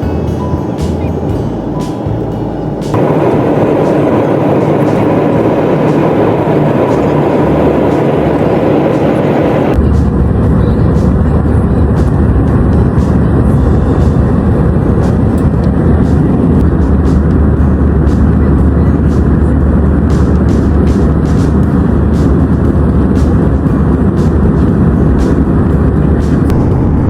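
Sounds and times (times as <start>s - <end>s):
jet engine and airflow roar: 0.0s - 27.0s.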